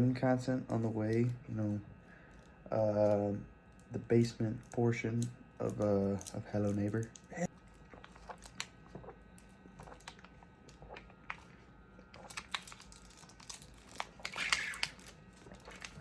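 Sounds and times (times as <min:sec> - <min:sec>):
crinkling rustle: 0:02.2 - 0:16.0.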